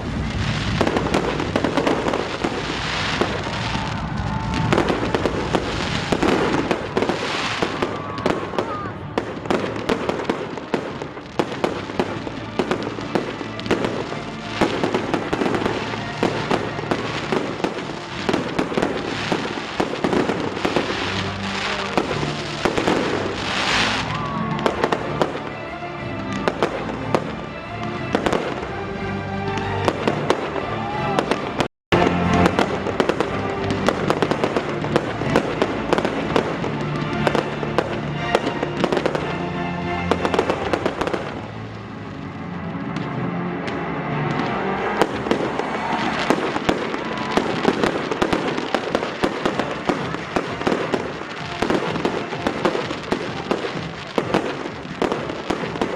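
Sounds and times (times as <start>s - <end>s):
fireworks bangs and crackle: 0.0s - 28.8s, 29.5s - 55.9s
music playing: 0.0s - 55.9s.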